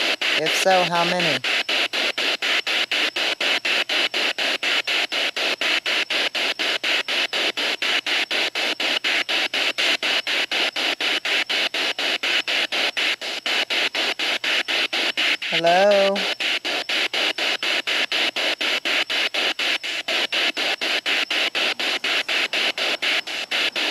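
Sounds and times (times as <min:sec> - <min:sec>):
chopped radio static hiss: 0:00.0 - 0:23.9.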